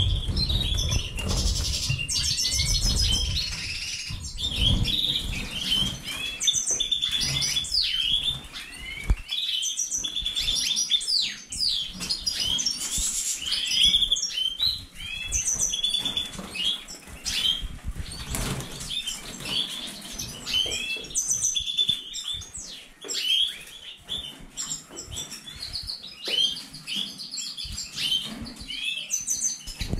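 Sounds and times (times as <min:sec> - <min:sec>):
caged birds chirping and trilling: 0:00.0 - 0:29.9.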